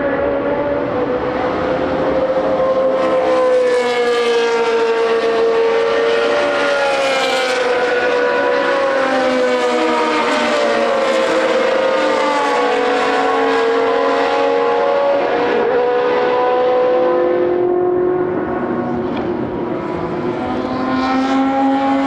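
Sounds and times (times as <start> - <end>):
racing car engines at high revs: 0.0 - 22.0.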